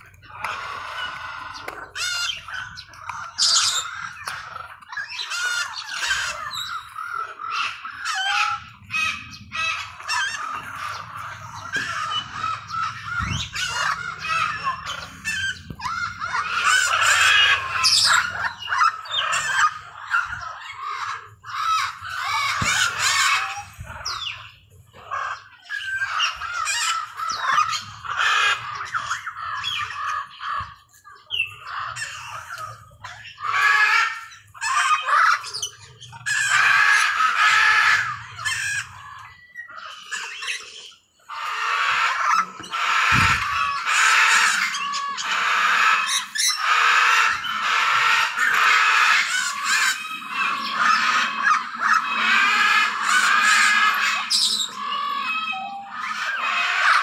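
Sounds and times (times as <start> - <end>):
macaws squawking: 0.0 - 57.0.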